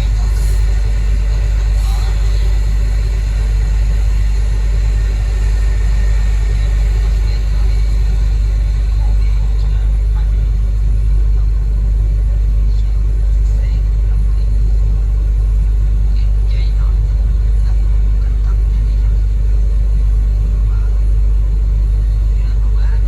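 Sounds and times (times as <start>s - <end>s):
large diesel engine rumbling: 0.0s - 23.0s.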